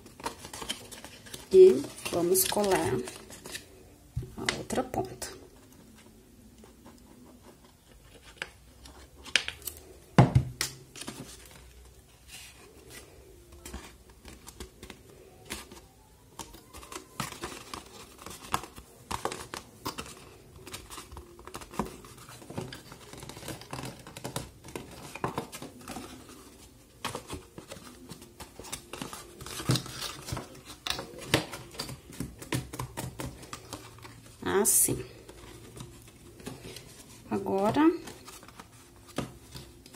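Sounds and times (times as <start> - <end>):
stiff card rustling and crinkling: 0.0 - 10.0, 10.7 - 39.9.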